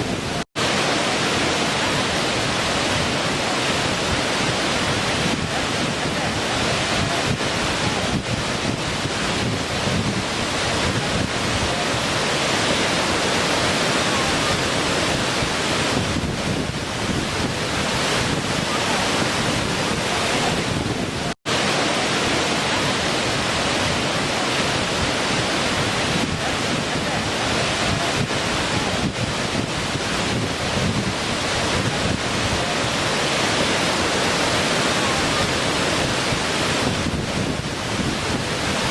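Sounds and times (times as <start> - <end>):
water falling and splashing: 0.0 - 38.9.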